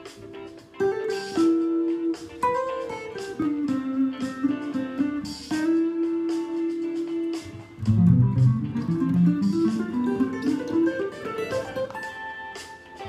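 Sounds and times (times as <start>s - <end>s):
clean electric guitar lead: 0.0s - 13.0s.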